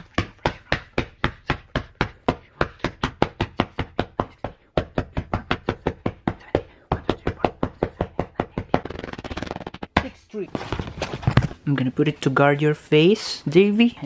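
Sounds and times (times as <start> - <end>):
hand slapping paper: 0.0 - 11.5.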